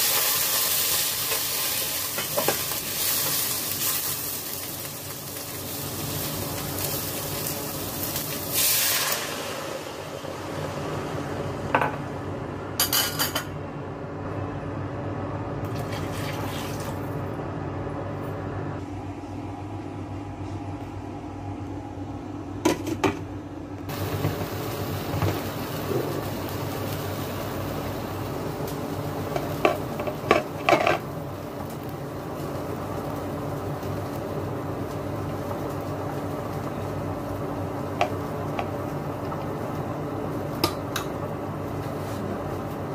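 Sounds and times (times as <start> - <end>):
steady background hum: 0.0 - 42.9.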